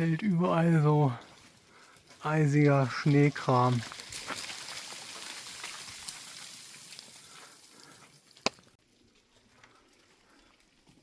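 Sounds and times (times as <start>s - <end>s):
snow and meltwater pattering: 0.0s - 11.0s.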